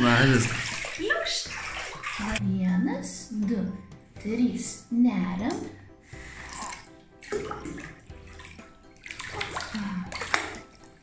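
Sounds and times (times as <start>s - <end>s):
bathtub water sloshing and lapping: 0.0s - 11.0s.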